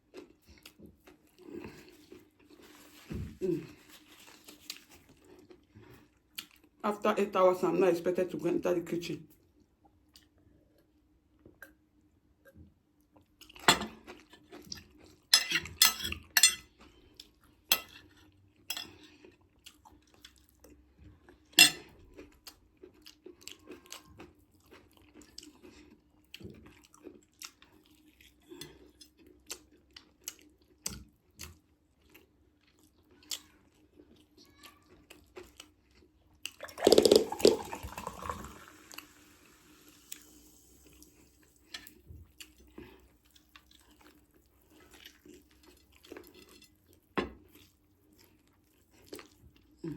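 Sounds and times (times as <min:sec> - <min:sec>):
chewing: 0:00.0 - 0:06.8, 0:13.0 - 0:37.7, 0:40.0 - 0:49.9.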